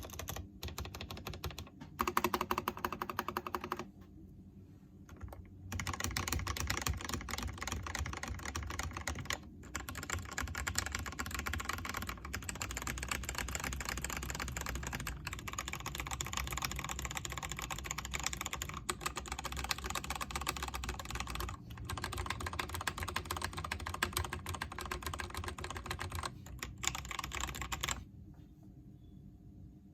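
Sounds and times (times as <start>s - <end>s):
fast mechanical keyboard typing: 0.0s - 3.9s, 5.1s - 28.0s.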